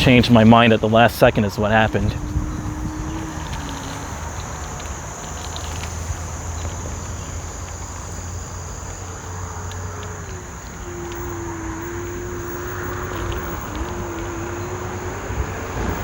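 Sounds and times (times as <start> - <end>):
electric scooter motor whine: 0.0 - 16.0
high insect drone: 0.0 - 16.0
tyre and wind noise: 0.0 - 16.0
small clicks: 2.3 - 16.0.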